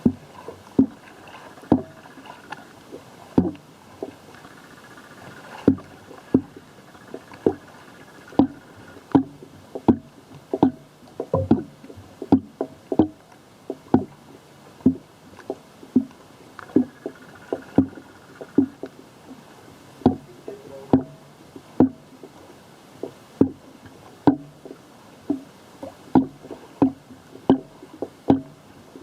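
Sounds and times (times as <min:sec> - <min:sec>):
water slapping against microphone: 0:00.0 - 0:29.0.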